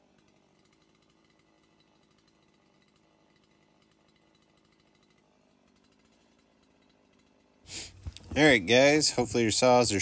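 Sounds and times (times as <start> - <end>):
faint chainsaw running: 0.0 - 10.0.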